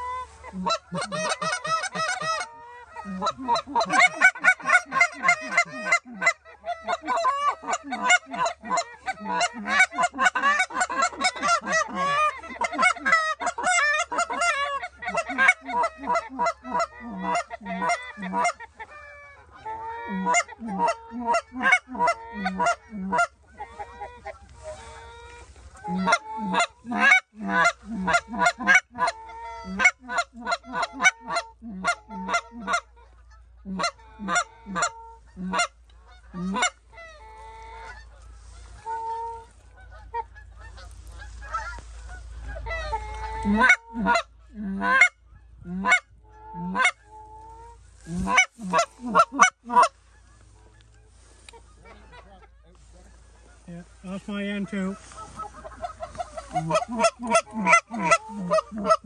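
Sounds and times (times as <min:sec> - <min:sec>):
goose honking: 0:00.0 - 0:59.0.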